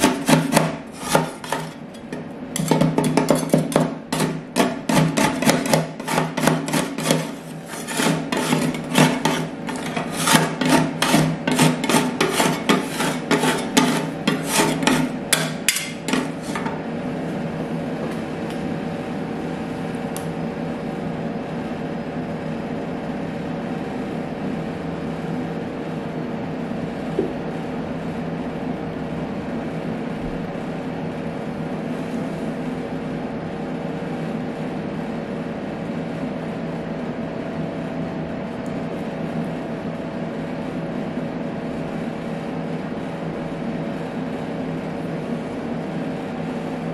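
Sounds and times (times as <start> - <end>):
refrigeration compressor hum: 0.0 - 46.9.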